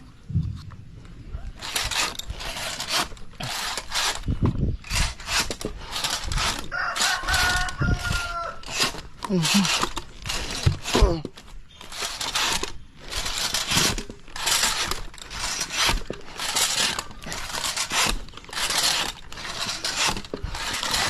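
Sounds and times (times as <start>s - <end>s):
saw rasping through wood: 1.5s - 21.0s.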